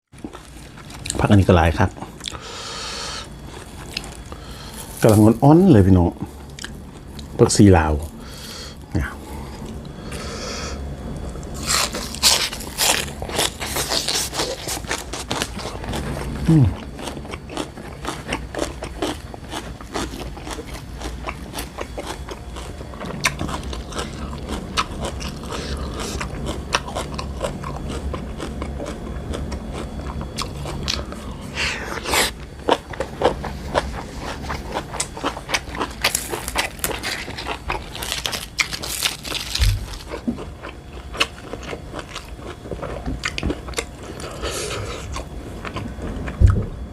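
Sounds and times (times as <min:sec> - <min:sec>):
crunchy chewing of raw vegetables: 0:00.2 - 0:46.9.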